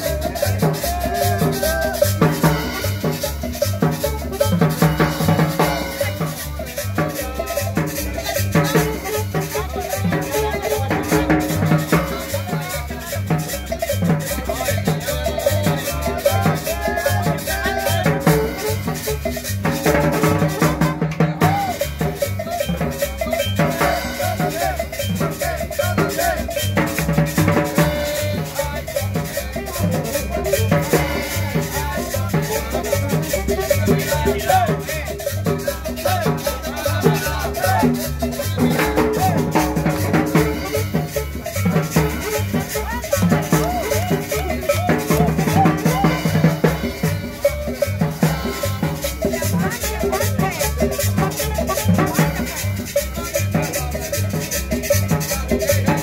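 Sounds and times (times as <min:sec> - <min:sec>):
upbeat latin dance music: 0:00.0 - 0:56.0.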